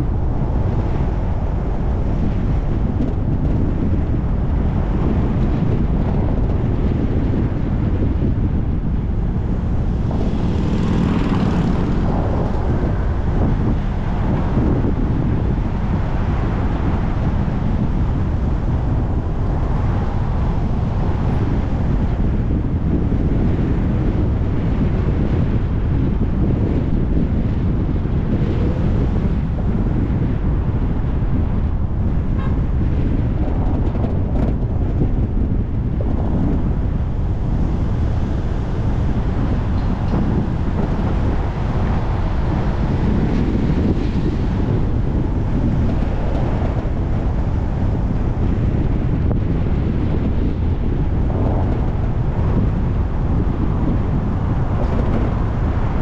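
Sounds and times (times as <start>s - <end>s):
car road and engine rumble: 0.0s - 56.0s
wind buffeting microphone: 0.0s - 56.0s.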